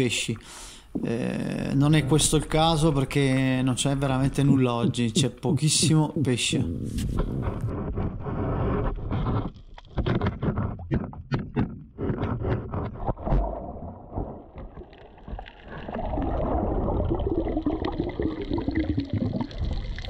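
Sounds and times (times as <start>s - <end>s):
underwater clicks and scrapes: 1.8s - 20.0s.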